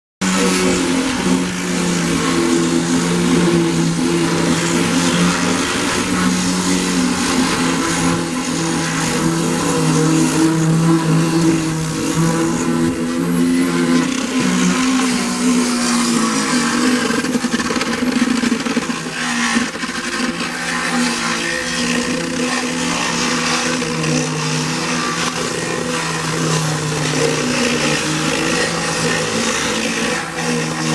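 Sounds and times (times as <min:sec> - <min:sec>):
power sander running: 0:00.2 - 0:30.9.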